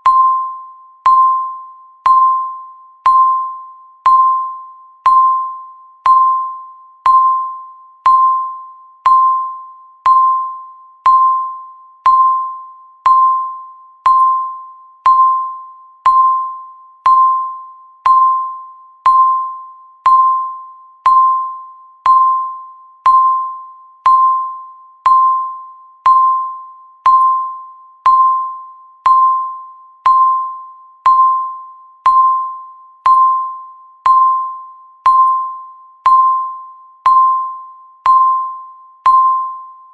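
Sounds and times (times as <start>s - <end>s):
timer ding: 0.0s - 39.9s.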